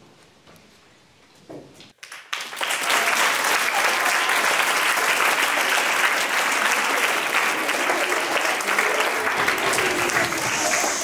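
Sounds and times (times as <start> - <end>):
children applauding: 2.0 - 11.0.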